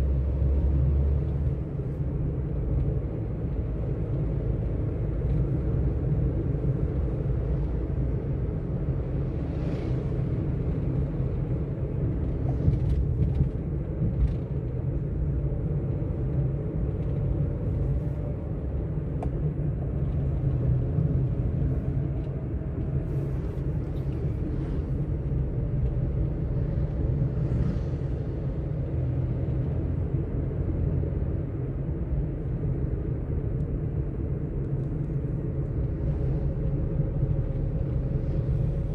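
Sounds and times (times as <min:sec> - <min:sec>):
road and engine rumble in car: 0:00.0 - 0:38.9.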